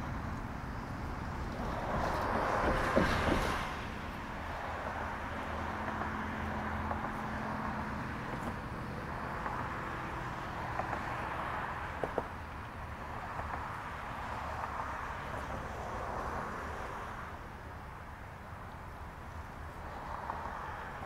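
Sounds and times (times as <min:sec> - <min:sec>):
car passing: 0:00.0 - 0:17.4
steady traffic hum: 0:00.0 - 0:21.0.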